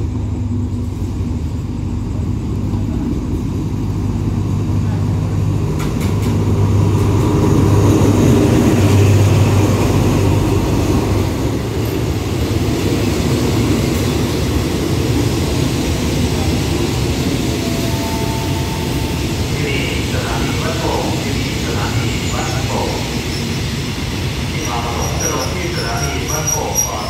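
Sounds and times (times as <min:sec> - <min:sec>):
diesel locomotive engine hum: 0:00.0 - 0:27.0
train carriages rumbling past: 0:00.0 - 0:27.0.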